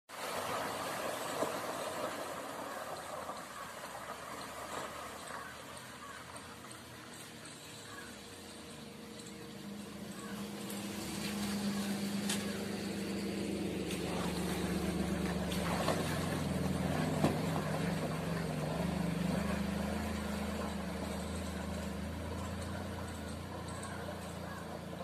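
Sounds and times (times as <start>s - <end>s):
tyres swishing through water: 0.1s - 25.0s
car engine running: 0.4s - 25.0s.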